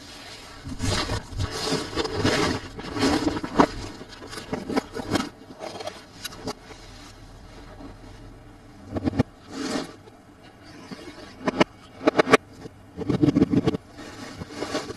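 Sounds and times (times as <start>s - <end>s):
toy packaging scraping and rubbing: 0.0s - 7.2s, 9.0s - 14.9s.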